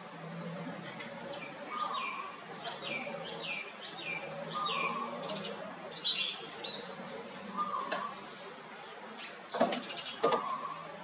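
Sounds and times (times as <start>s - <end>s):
bird singing: 0.2s - 11.0s.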